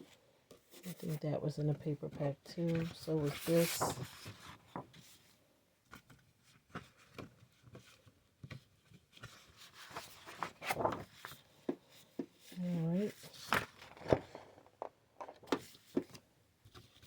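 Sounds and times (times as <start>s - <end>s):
paper rustling: 2.1s - 17.0s.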